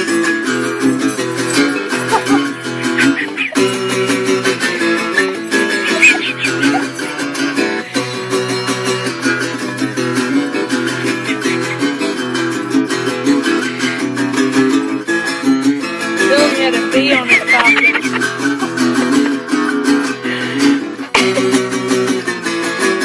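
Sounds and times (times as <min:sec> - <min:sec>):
fast guitar strumming: 0:00.0 - 0:23.0.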